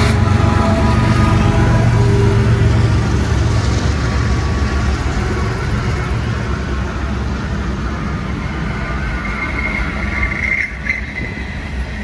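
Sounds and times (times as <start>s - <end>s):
diesel locomotive engines droning: 0.0s - 12.0s
steel wheels rolling on rail: 0.0s - 12.0s.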